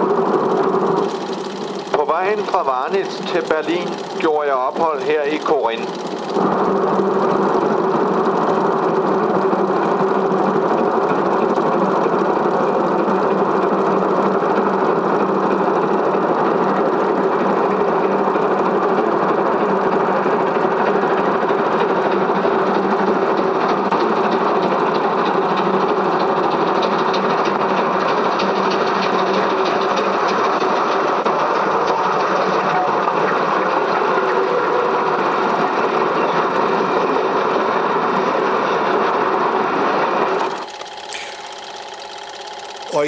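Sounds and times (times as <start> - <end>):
film projector whirring and clattering: 0.0 - 43.0.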